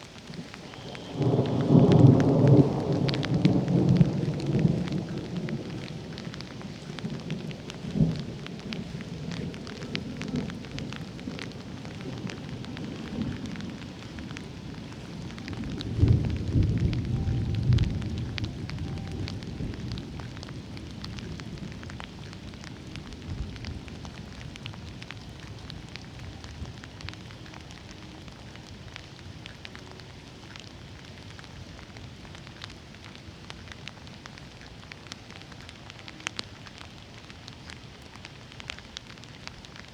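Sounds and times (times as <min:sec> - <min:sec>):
thunder rumbling: 0:00.0 - 0:33.9
rain falling: 0:00.0 - 0:39.9
sharp raindrops dripping: 0:00.0 - 0:39.9.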